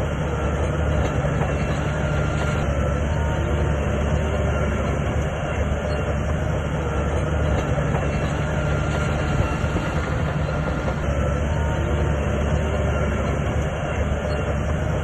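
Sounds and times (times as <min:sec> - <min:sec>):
bulldozer diesel engine running: 0:00.0 - 0:15.0
steel tracks clattering: 0:00.0 - 0:15.0.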